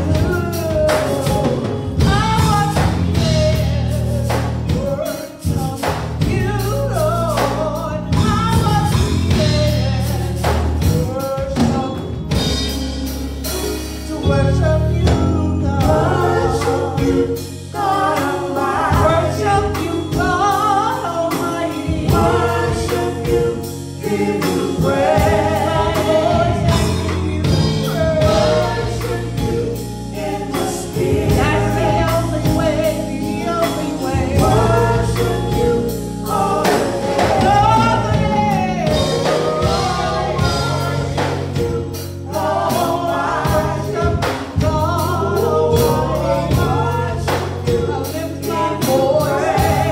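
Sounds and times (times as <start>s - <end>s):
group singing gospel: 0.0s - 49.9s
instrumental backing with bass: 0.0s - 49.9s.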